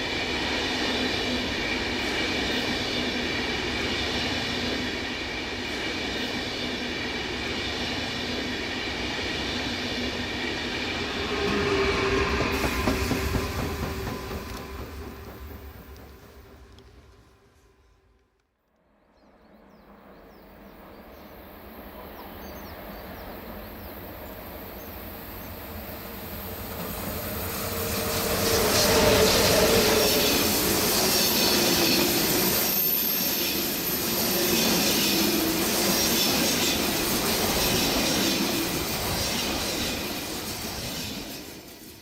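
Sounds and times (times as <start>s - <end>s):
train wheels on rails: 0.0s - 18.4s, 20.6s - 42.0s.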